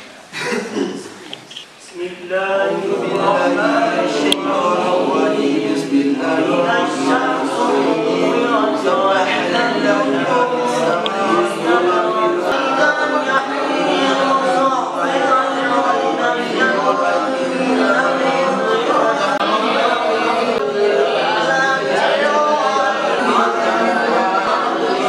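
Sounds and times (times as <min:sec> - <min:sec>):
voices chanting together: 0:01.9 - 0:25.0.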